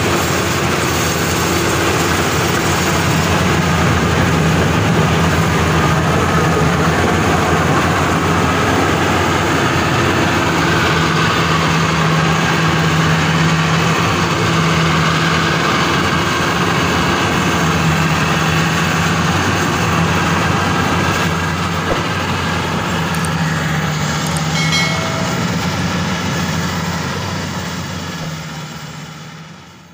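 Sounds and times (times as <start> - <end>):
combine harvester droning: 0.0 - 29.9.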